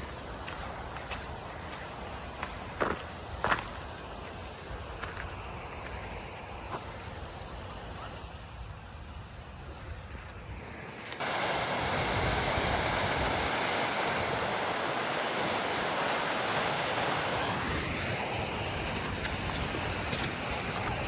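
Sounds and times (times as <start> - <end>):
flowing water: 0.0 - 7.4, 10.6 - 21.0
wind: 0.0 - 21.0.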